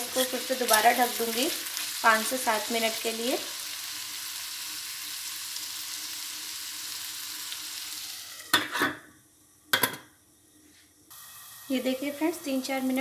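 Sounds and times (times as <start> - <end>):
vegetables sizzling in oil: 0.0 - 8.7, 11.1 - 13.0.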